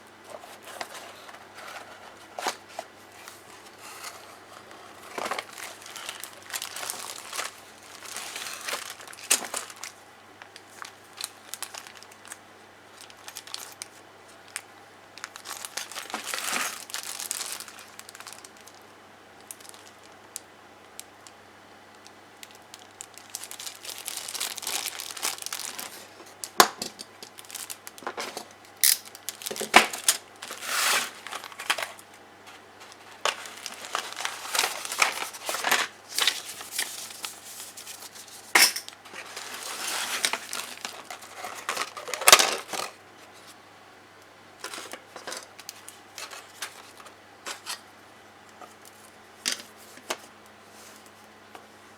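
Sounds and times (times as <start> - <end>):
plastic packaging crinkling and tearing: 0.4 - 14.6, 15.2 - 21.3, 21.9 - 43.0, 44.6 - 47.8.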